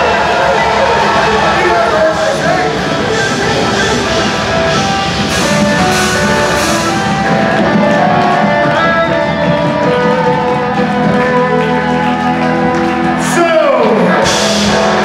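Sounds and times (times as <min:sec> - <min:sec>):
electric guitar melody: 0:00.0 - 0:15.0
metal band playing live: 0:00.0 - 0:15.0.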